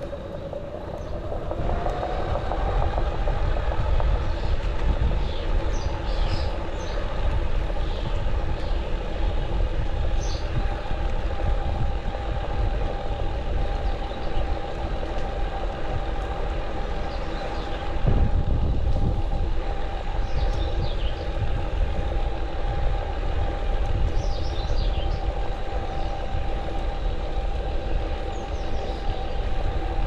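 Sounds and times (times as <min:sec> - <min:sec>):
e-bike motor whine: 0:00.0 - 0:30.0
low rumble: 0:00.0 - 0:30.0.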